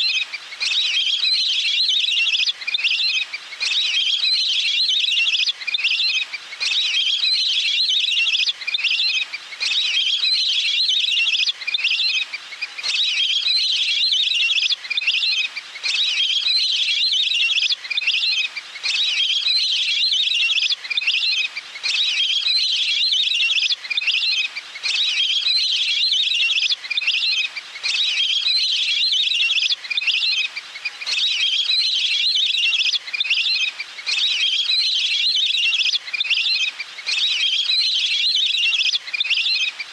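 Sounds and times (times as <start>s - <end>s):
high chirping bird trills: 0.0s - 39.9s.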